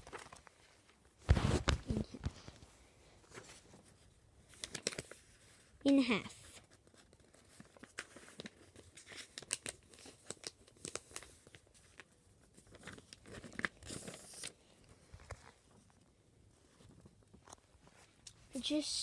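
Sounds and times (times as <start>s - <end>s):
paper rustling: 0.0s - 15.9s
paper folding and crinkling: 0.0s - 18.8s.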